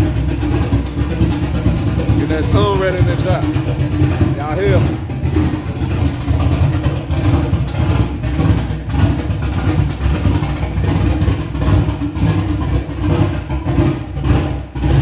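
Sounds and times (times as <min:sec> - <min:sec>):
car engine running loudly: 0:00.0 - 0:15.0.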